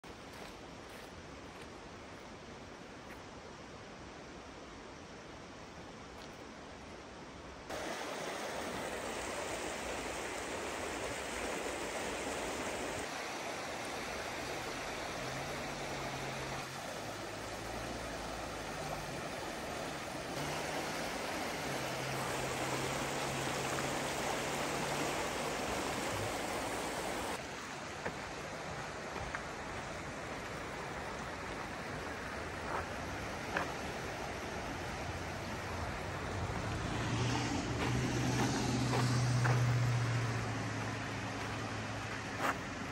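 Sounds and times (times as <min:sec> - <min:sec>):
rushing creek and waterfall: 0:00.0 - 0:42.9.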